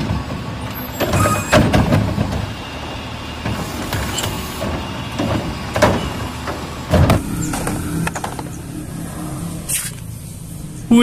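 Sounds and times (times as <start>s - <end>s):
diesel engine running: 0.0s - 11.0s
hydraulics working: 0.0s - 11.0s.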